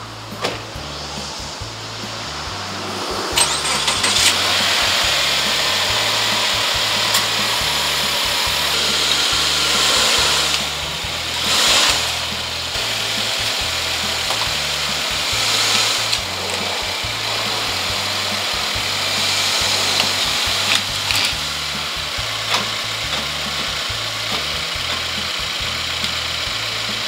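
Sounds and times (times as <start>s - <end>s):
steady rushing noise: 0.0s - 24.8s
music with stepping bass line: 0.0s - 27.0s.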